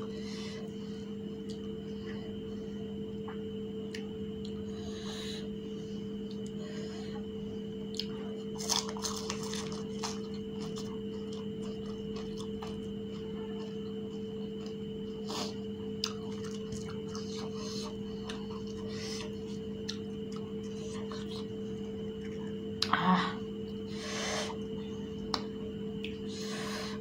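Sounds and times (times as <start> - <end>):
crunchy food being chewed: 0.0 - 27.0
steady background hum: 0.0 - 27.0.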